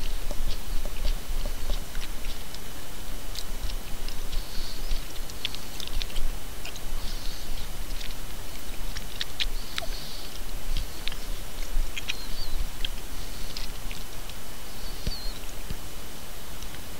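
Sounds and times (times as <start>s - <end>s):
person chewing raw carrot: 0.0s - 15.8s.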